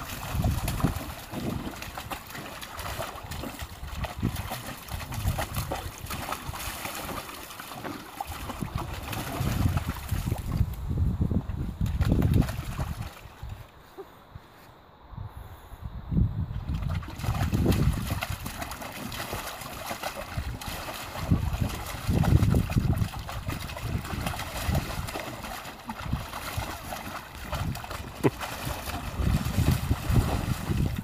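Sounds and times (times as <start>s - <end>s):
dog splashing in water: 0.0s - 10.7s, 11.8s - 13.5s, 16.6s - 31.0s.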